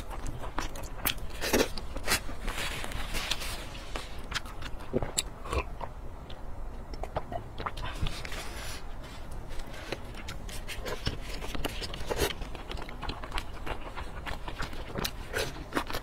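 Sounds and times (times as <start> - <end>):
wet chewing and lip-smacking: 0.0 - 2.6, 3.3 - 8.5, 9.3 - 16.0.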